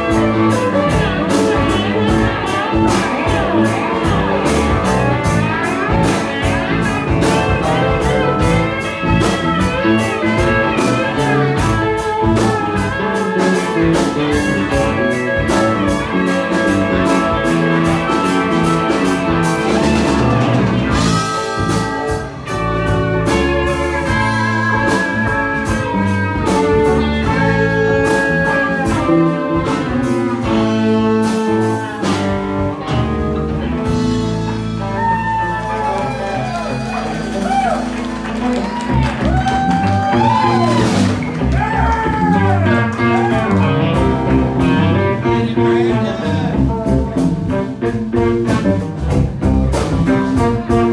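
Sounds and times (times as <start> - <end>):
blues-rock band playing: 0.0 - 50.9
wavering lead guitar line: 0.0 - 50.9.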